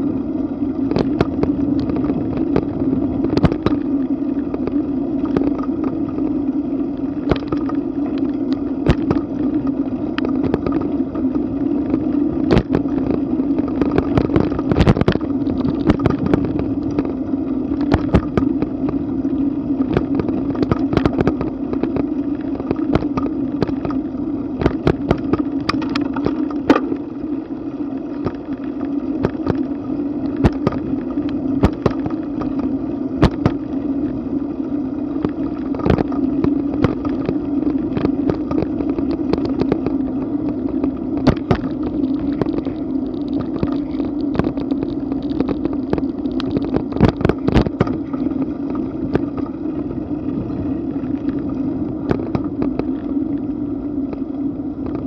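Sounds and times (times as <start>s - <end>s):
bicycle clicks and rattles: 0.0s - 55.0s
bicycle rolling on asphalt: 0.0s - 55.0s.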